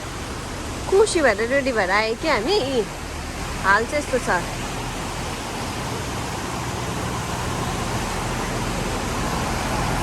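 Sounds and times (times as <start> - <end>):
cars driving on flooded streets: 0.0 - 10.0.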